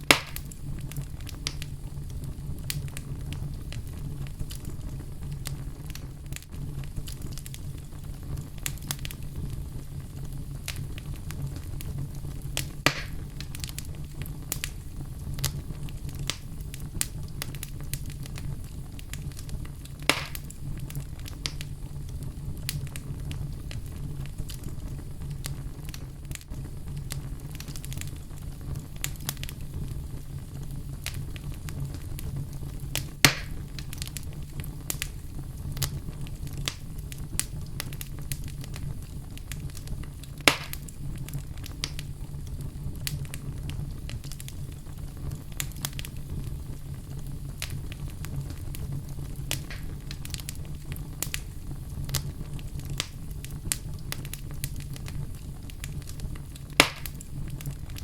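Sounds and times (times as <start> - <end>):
fire pops: 0.0 - 58.0
low rumble of flames: 0.0 - 58.0
wood fire crackling: 0.0 - 58.0.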